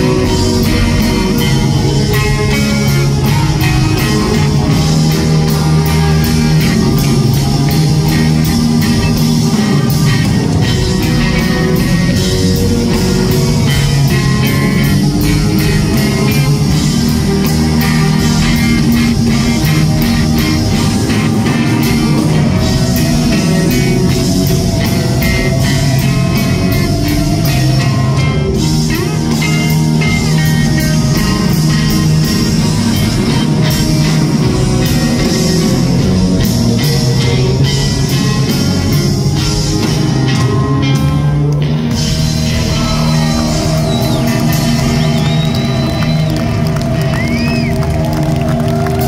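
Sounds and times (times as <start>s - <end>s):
live blues-rock band: 0.0s - 49.0s
sliding guitar notes: 0.0s - 49.0s.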